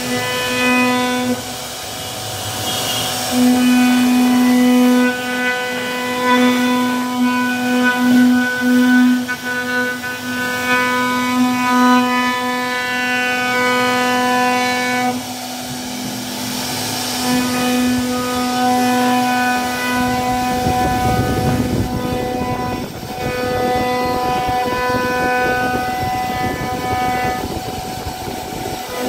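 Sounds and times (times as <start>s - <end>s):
router spindle whining: 0.0s - 29.0s.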